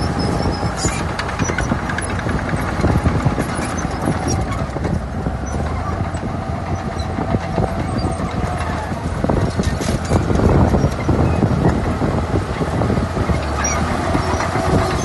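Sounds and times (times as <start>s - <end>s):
heavy diesel machinery running: 0.0s - 15.0s
rattling and clanking: 0.0s - 15.0s.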